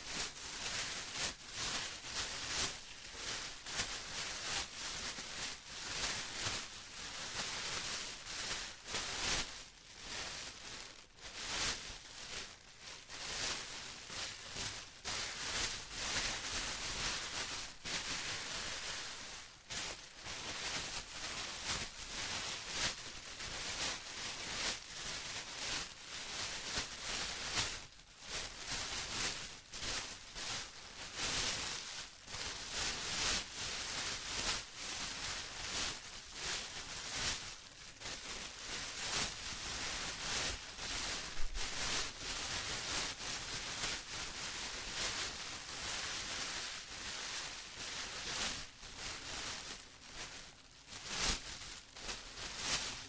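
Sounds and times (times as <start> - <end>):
plastic crinkling: 0.0 - 53.0.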